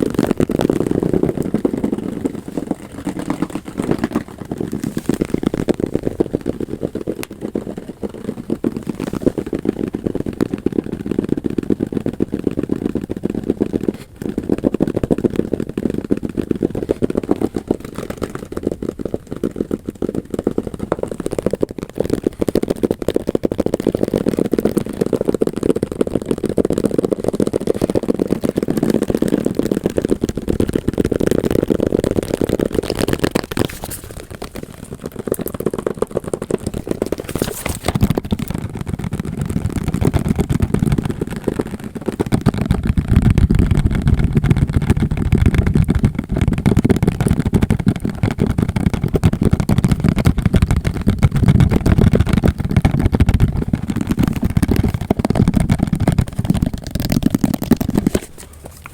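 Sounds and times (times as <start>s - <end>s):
fast tapping close to microphone: 0.0s - 58.9s.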